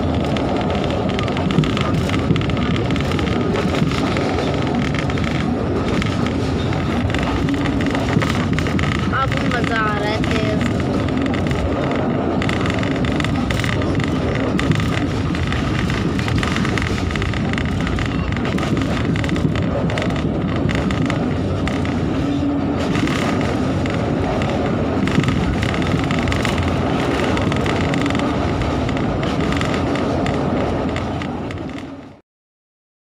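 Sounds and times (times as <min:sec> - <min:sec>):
train wheels rumbling on rails: 0:00.0 - 0:32.2.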